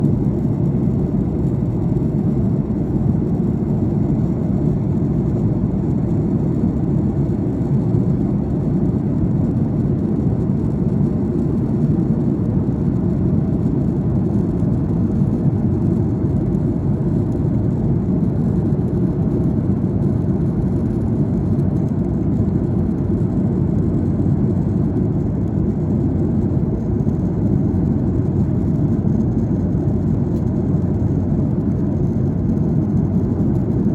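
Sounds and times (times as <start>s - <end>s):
airplane engines roaring in cabin: 0.0s - 33.9s.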